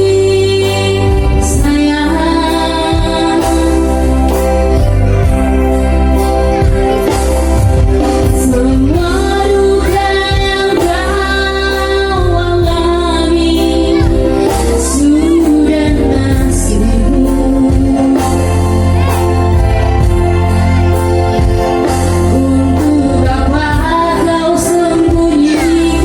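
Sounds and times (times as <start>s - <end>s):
person singing with vibrato: 0.0s - 7.2s, 8.0s - 26.0s
backing music with heavy bass: 0.0s - 26.0s.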